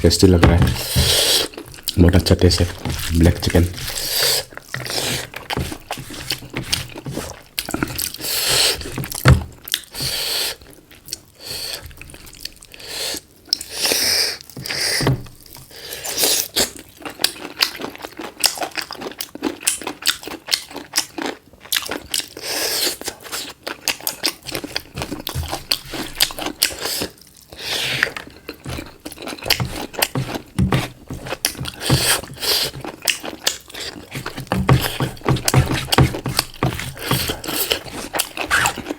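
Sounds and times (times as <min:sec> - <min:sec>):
person chewing and crunching: 0:00.0 - 0:38.9.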